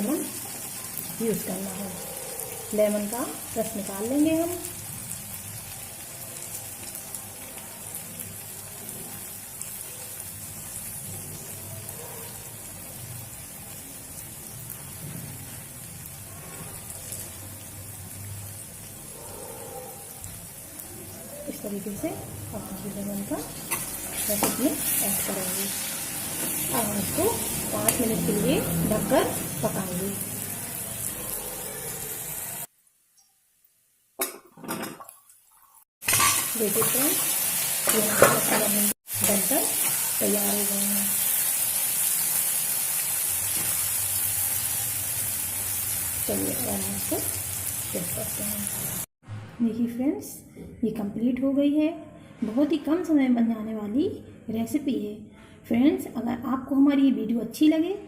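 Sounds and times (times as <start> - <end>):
food sizzling in a pan: 0.0 - 19.2, 19.9 - 49.1.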